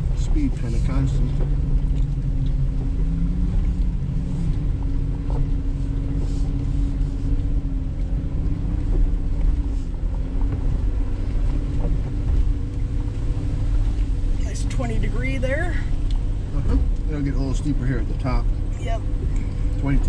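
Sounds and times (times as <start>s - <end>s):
engine low drone: 0.0s - 20.0s.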